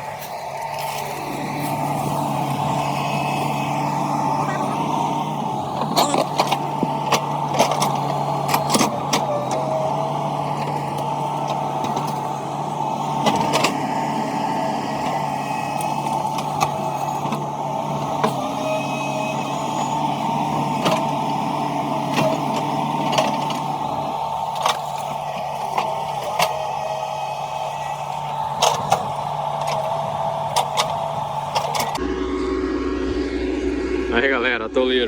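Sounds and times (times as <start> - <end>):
excavator diesel engine running: 0.0 - 35.0
hydraulic whine: 0.0 - 35.0.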